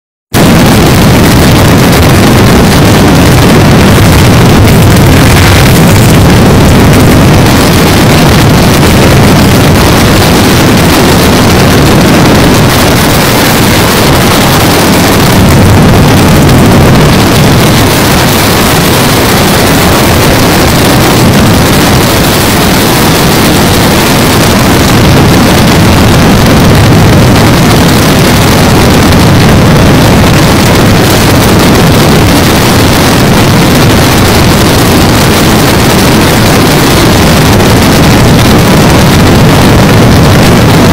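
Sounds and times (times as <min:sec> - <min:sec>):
wind buffeting microphone: 0:00.3 - 0:40.9.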